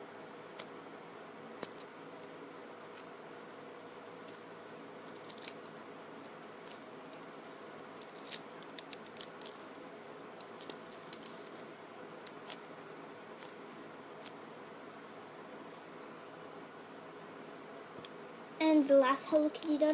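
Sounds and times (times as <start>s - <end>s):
faint room hum: 0.0s - 19.9s.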